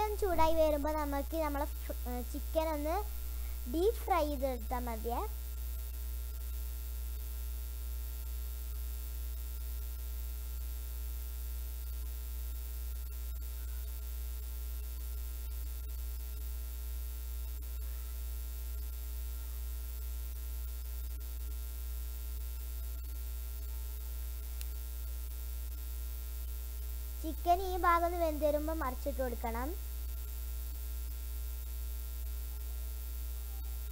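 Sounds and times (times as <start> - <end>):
buzz of steady tones: 0.0 - 33.9
electrical mains hum: 0.0 - 33.9.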